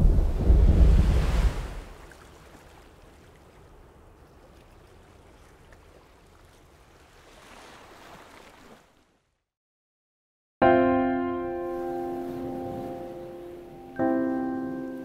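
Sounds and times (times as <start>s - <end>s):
calm sea waves washing: 0.0s - 9.4s, 11.4s - 15.0s.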